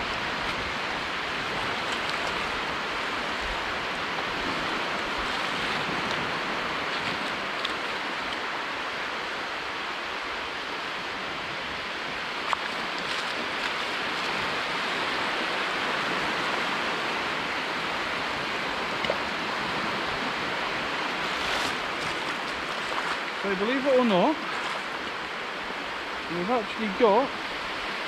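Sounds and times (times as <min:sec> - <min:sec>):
surf on sandy shore: 0:00.0 - 0:28.0.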